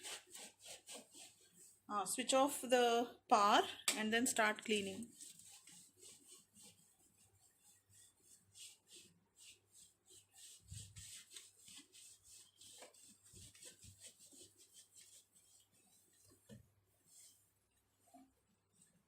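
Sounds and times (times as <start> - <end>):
wiping strokes scrubbing: 0.0 - 2.3, 4.6 - 19.0.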